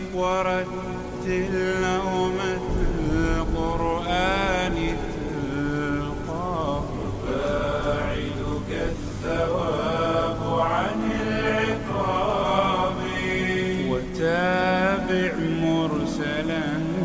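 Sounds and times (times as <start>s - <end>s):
slowed voices singing a chant: 0.0s - 17.0s.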